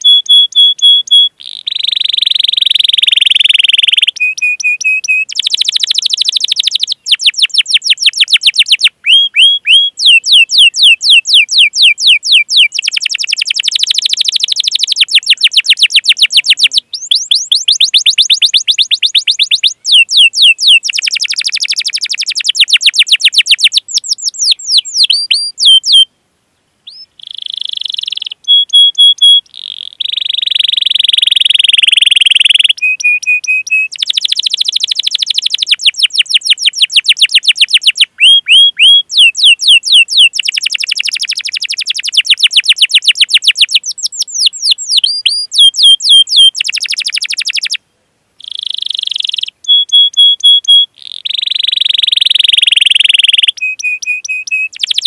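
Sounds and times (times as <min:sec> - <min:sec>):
canary singing trills: 0:00.0 - 0:26.1, 0:26.8 - 0:47.8, 0:48.4 - 0:55.0.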